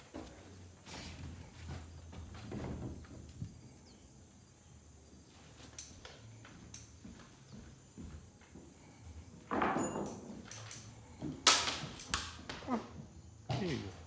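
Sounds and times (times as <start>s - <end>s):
faint footsteps: 0.0s - 14.0s.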